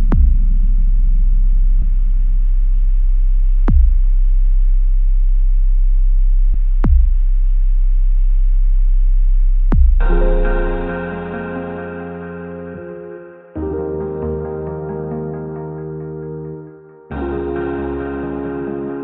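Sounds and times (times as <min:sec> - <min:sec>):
deep bass drone: 0:00.0 - 0:19.0.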